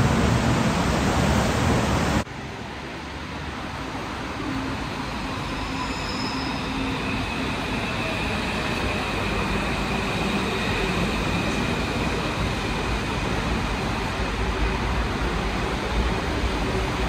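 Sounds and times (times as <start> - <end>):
train running at low speed: 0.0 - 17.0.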